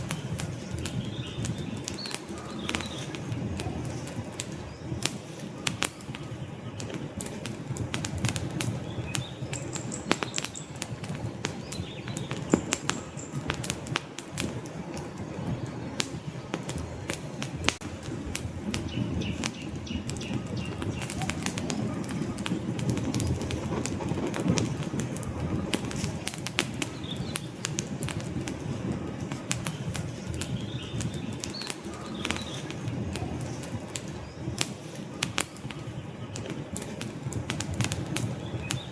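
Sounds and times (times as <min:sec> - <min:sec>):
crackles and pops from logs: 0:00.0 - 0:38.9
low rumble of flame: 0:00.0 - 0:38.9.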